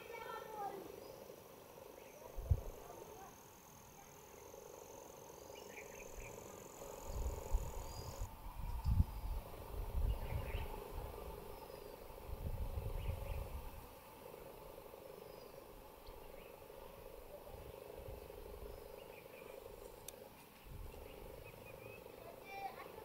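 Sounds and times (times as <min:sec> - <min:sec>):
wind rumbling on microphone: 0:01.8 - 0:03.1, 0:05.5 - 0:23.0.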